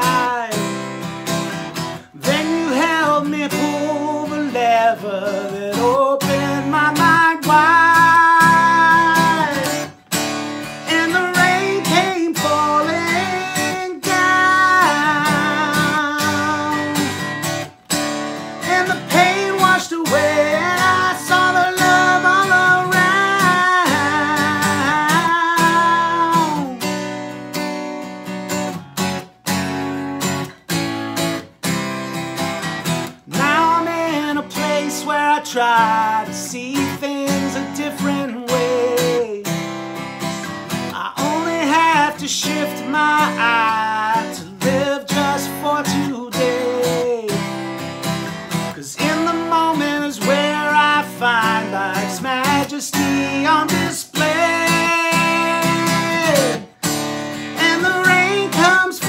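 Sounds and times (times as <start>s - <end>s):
man singing: 0.0s - 27.2s, 33.1s - 40.1s, 40.7s - 59.0s
strummed acoustic guitar: 0.0s - 59.0s.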